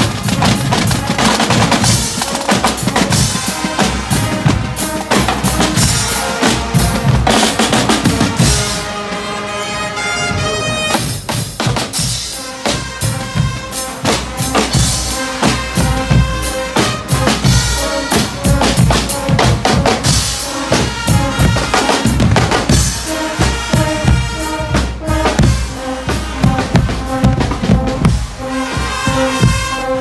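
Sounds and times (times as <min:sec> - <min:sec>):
marching drums playing fast beat: 0:00.0 - 0:09.3, 0:10.2 - 0:30.0
brass section: 0:00.0 - 0:30.0.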